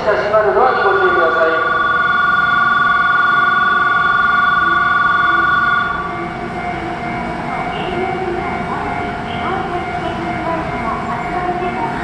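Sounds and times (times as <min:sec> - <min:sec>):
train humming: 0:00.0 - 0:12.0
warbling electronic departure bell: 0:00.6 - 0:12.0.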